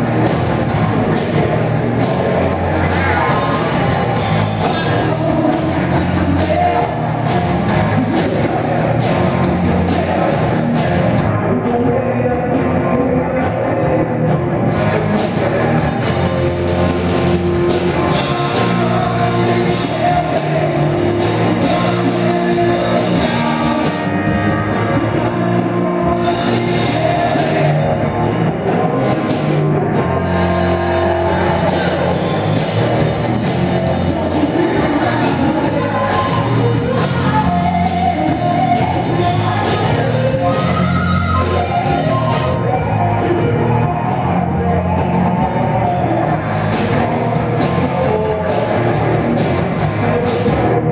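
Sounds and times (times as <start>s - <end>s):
bass guitar: 0.0s - 50.9s
drum kit: 0.0s - 50.9s
electric guitar: 0.0s - 50.9s
man singing lead: 0.0s - 50.9s.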